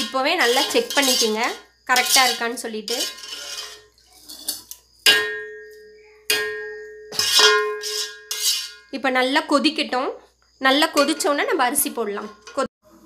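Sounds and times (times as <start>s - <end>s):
ladle clanging in metal pot: 0.0s - 8.9s, 10.8s - 12.7s.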